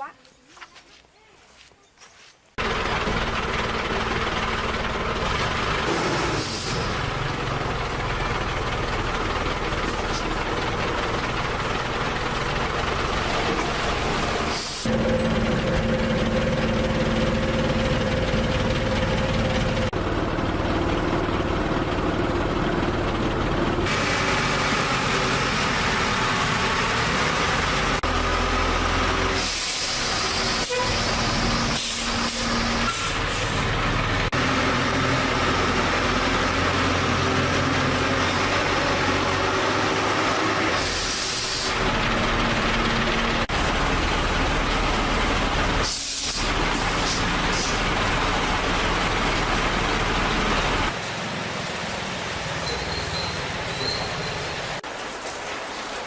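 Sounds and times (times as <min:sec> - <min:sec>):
heavy truck engine running: 0:02.6 - 0:54.9.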